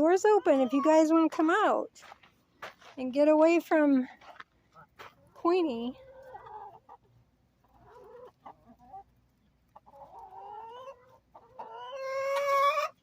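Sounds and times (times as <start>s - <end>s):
hens clucking: 0.0s - 1.8s, 4.3s - 13.0s.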